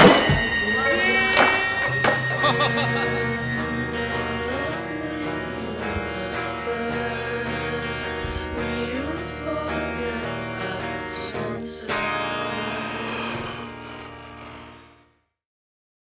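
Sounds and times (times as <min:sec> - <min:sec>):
melodic background music: 0:00.0 - 0:13.7.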